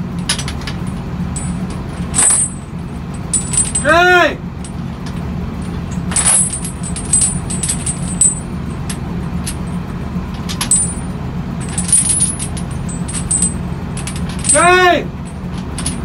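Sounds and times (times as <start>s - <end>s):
low machine hum: 0.0s - 16.0s
steel chains clinking: 0.1s - 16.0s.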